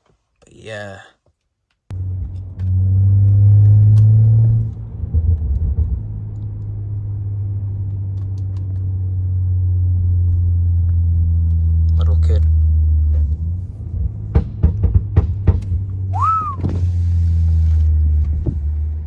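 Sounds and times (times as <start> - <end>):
car engine starting and idling: 1.9 - 19.0.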